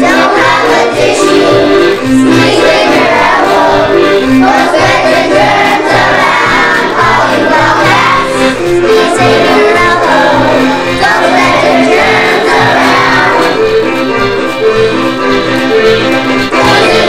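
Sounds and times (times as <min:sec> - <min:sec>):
children singing: 0:00.0 - 0:14.9, 0:15.6 - 0:17.0
instrumental accompaniment: 0:00.0 - 0:17.0.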